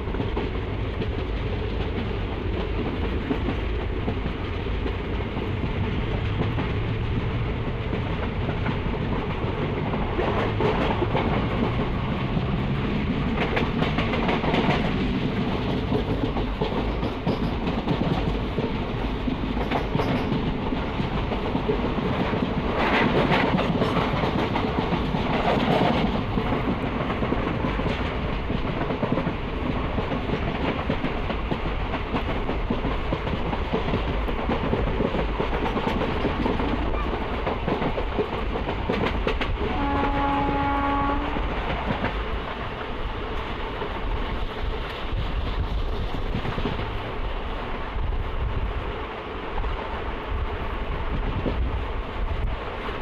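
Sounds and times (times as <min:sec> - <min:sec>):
train wheels clattering: 0:00.0 - 0:47.4
train wheels rumbling on rail: 0:00.0 - 0:53.0.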